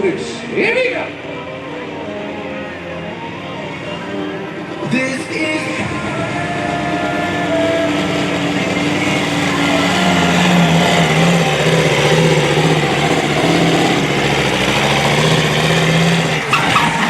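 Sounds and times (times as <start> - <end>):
truck engine running loud: 0.0 - 17.0.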